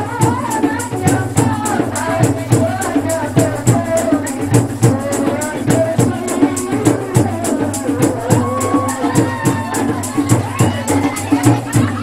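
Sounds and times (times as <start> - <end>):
woman singing into microphone: 0.0 - 10.8
amplified music with drum beat: 0.0 - 12.0.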